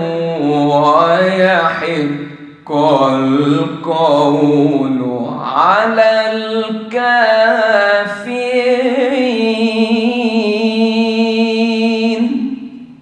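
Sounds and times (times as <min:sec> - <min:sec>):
man reciting in melodic chant: 0:00.0 - 0:13.0.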